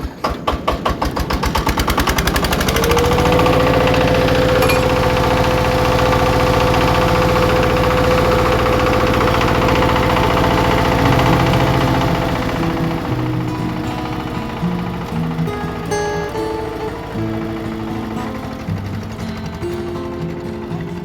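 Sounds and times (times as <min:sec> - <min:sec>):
diesel tiller engine chugging: 0:00.0 - 0:21.0.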